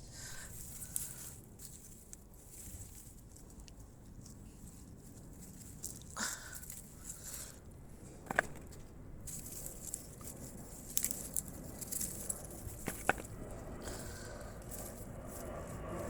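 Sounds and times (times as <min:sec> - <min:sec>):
soil rustling while digging: 0:00.0 - 0:16.0.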